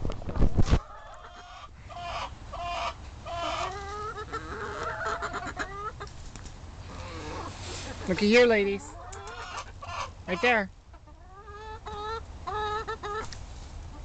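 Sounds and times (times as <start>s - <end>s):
hens clucking: 0.2s - 14.0s.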